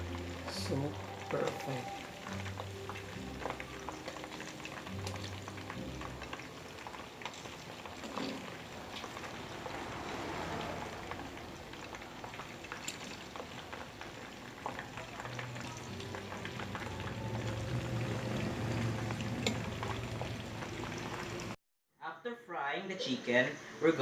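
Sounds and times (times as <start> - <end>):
chicken deep-frying in oil: 0.0 - 21.6.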